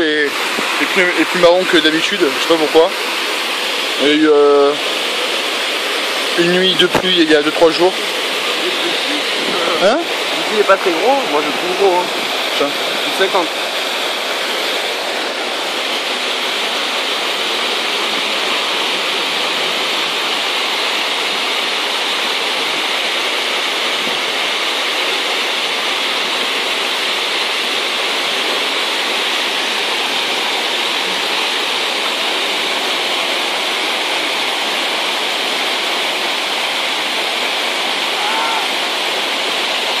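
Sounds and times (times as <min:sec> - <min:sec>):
water rushing over cascade: 0:00.0 - 0:40.0.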